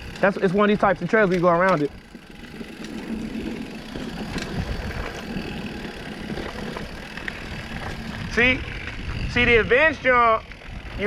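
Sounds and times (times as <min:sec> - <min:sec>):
bike clicks and rattles: 0:00.0 - 0:11.0
wind and tyre rumble: 0:00.0 - 0:11.0.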